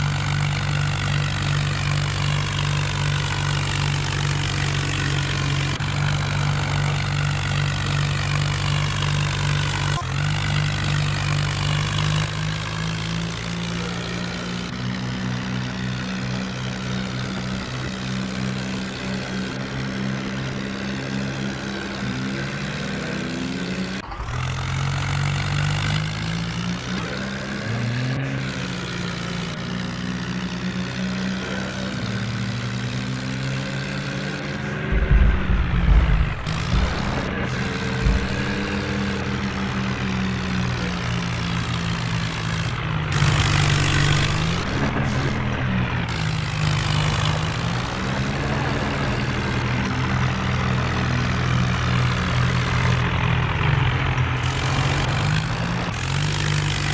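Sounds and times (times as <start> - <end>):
tractor diesel engine droning: 0.0 - 56.9.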